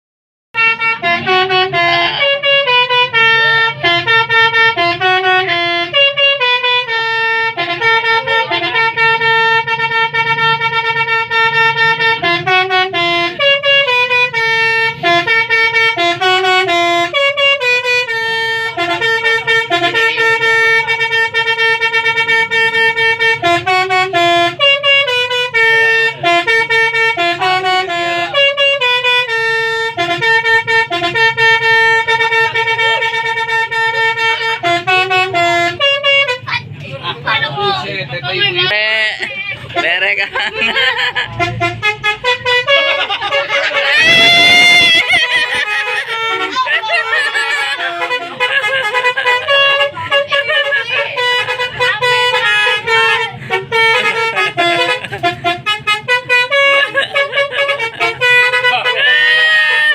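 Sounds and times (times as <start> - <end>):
musical bus horn playing tune: 0.6 - 59.9.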